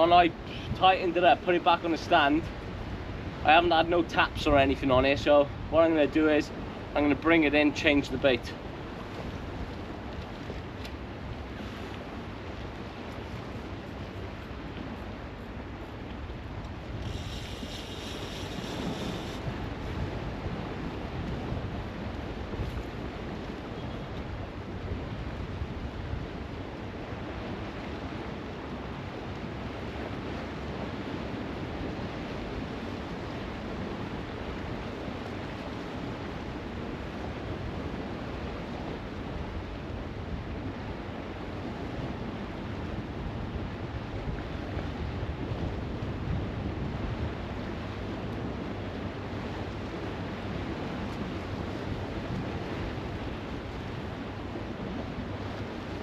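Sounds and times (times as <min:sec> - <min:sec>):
waves washing on shore: 0:00.0 - 0:56.0
wind buffeting microphone: 0:00.0 - 0:56.0.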